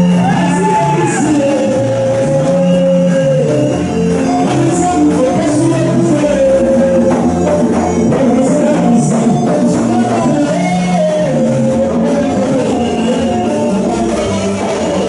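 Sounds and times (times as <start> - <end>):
stepping bass line: 0.0 - 15.0.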